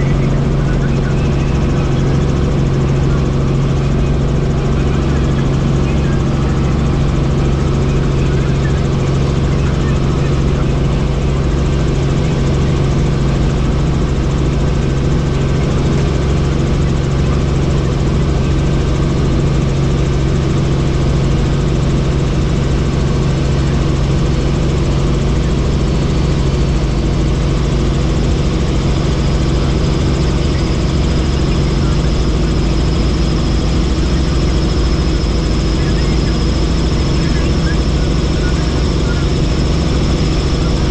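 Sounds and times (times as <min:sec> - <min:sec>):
faint high whine: 0:00.0 - 0:40.9
helicopter engine and rotor drone: 0:00.0 - 0:40.9.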